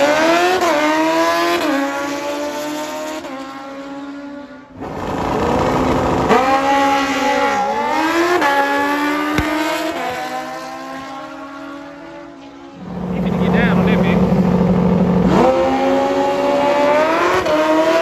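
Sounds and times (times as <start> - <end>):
motorcycle engines revving high: 0.0 - 18.0.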